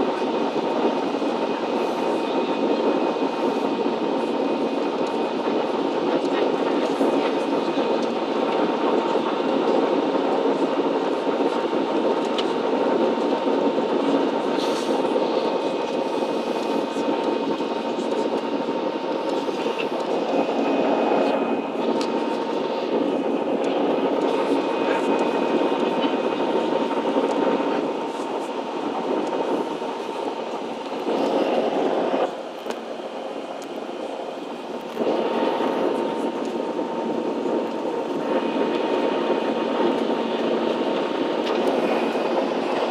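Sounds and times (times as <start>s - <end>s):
jet engine cabin rush: 0.0s - 42.9s
thin steady whine: 0.0s - 42.9s.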